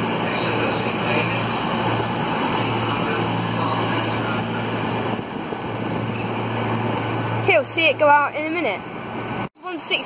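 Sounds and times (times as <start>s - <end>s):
diesel engines droning: 0.0s - 10.0s
train rumble: 0.0s - 10.0s.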